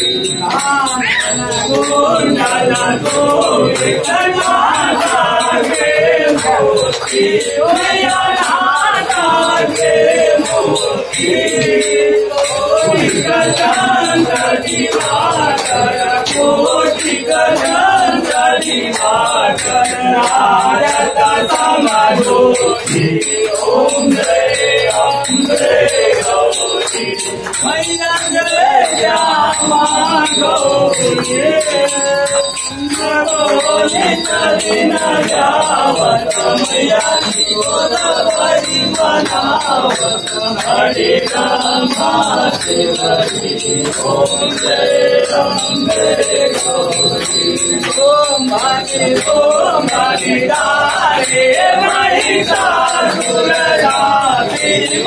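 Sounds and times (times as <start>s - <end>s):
group singing a hymn: 0.0s - 55.0s
small bell ringing: 0.0s - 55.0s.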